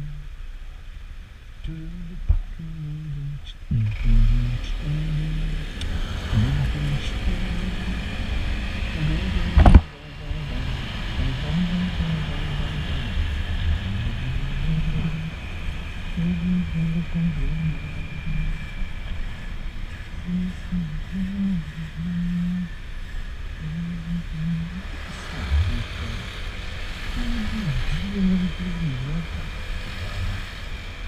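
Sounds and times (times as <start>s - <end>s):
wind rumble on microphone: 3.4s - 31.0s.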